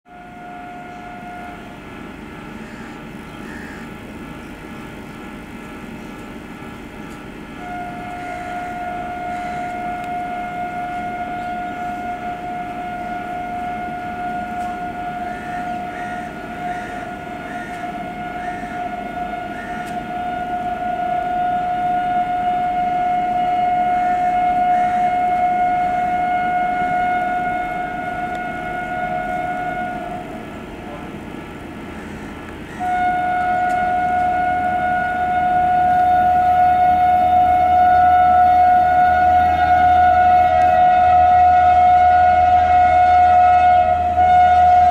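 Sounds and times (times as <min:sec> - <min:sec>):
locomotive air horn blasts: 0:00.0 - 0:04.0, 0:07.1 - 0:44.9
train rumble: 0:00.1 - 0:44.9.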